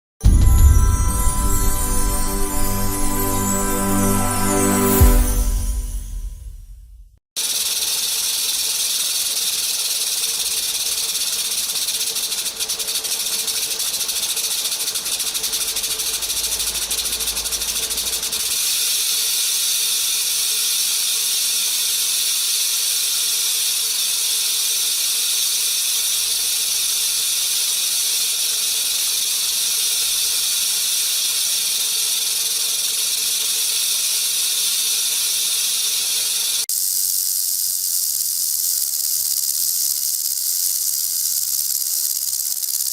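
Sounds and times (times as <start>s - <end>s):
rattlesnake rattling: 7.4s - 42.9s.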